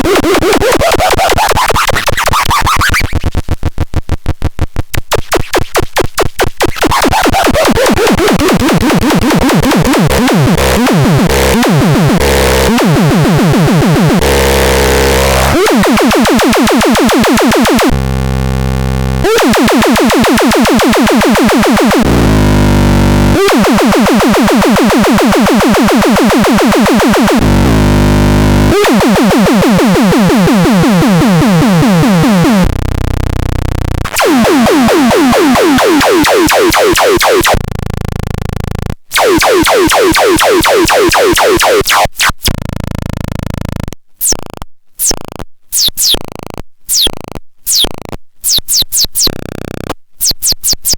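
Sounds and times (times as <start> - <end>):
harsh buzzing synthesizer sounds: 5.2 - 50.9.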